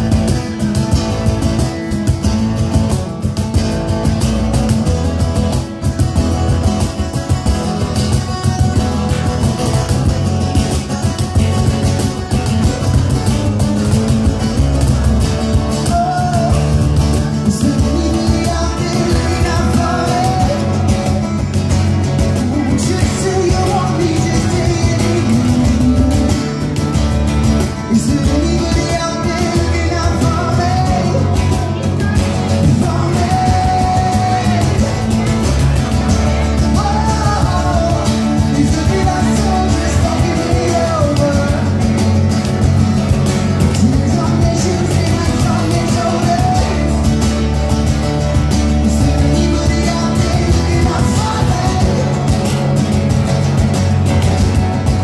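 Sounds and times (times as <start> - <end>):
acoustic rock band playing: 0.0 - 55.0.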